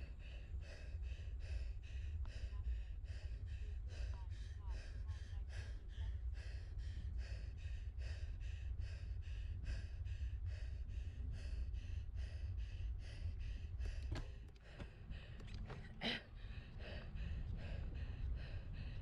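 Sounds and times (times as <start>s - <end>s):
low wind rumble: 0.0s - 19.0s.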